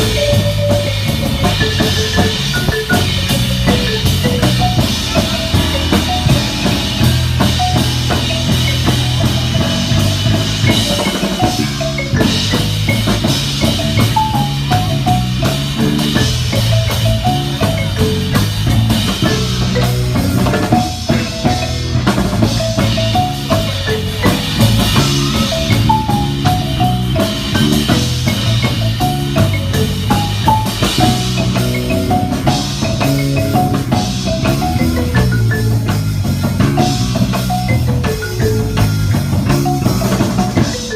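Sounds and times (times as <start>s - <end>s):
electric bass line: 0.0s - 40.9s
marimba melody: 0.0s - 40.9s
steady percussion beat: 0.0s - 40.9s.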